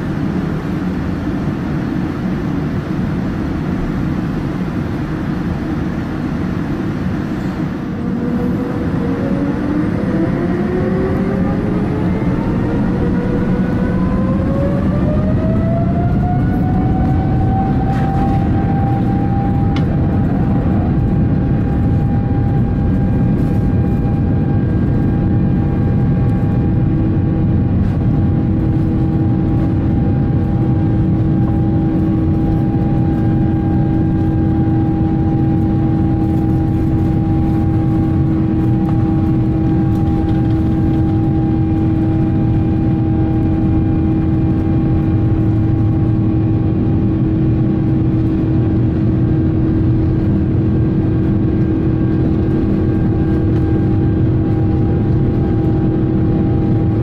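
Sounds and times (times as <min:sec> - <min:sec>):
jet engine roar: 0:00.0 - 0:57.0
jet engine whine: 0:00.0 - 0:57.0.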